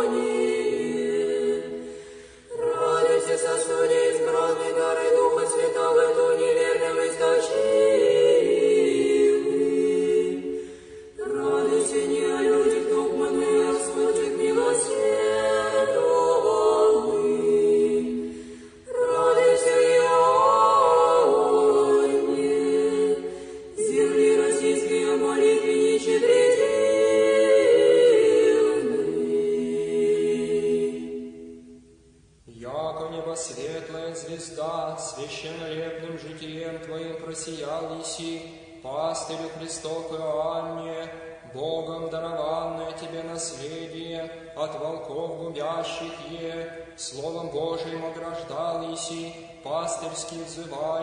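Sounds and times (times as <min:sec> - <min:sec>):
choir singing a cappella chant: 0:00.0 - 0:51.0.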